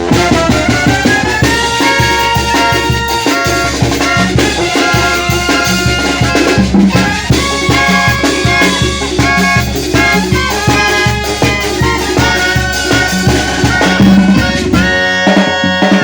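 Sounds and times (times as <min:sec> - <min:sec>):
bouncing bass line: 0:00.0 - 0:16.0
brass band playing: 0:00.0 - 0:16.0.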